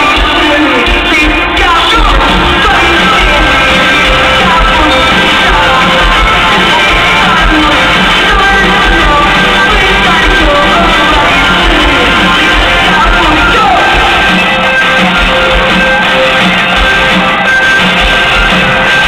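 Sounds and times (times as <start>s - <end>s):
live pop-rock band with vocals: 0.0s - 19.0s.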